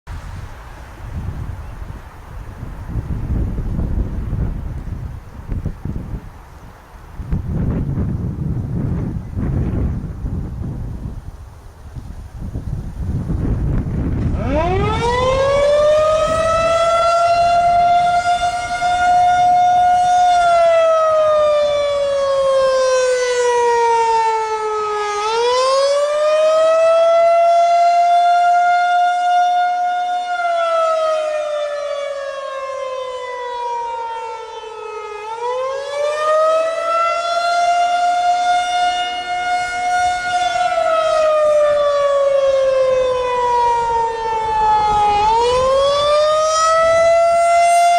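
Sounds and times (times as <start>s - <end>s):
warning siren wailing: 0.9s - 6.3s, 13.1s - 47.9s.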